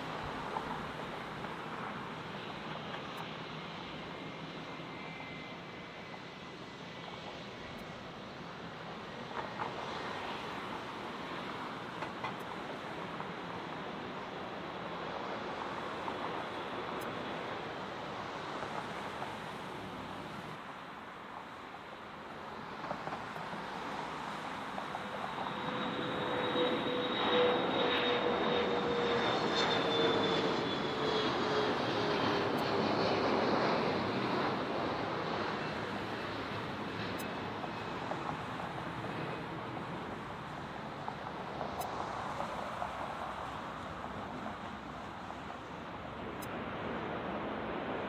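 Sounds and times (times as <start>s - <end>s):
jet engine whine: 0.0s - 48.0s
jet engines passing: 0.0s - 48.0s.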